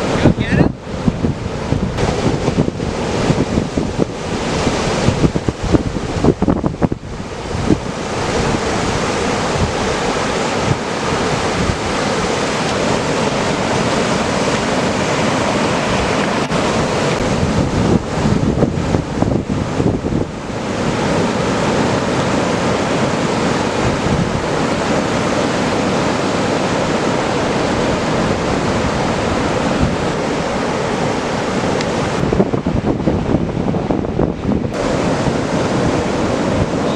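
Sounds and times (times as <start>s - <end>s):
ocean surf breaking: 0.0s - 36.9s
wind buffeting microphone: 0.0s - 36.9s.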